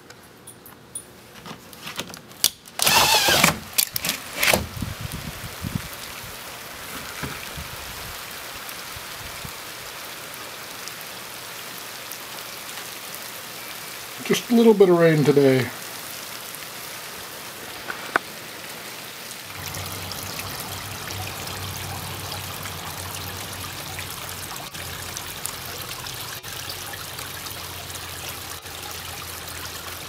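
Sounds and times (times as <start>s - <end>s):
rain on pond: 2.4s - 30.0s
fountain splashing and trickling: 4.8s - 30.0s.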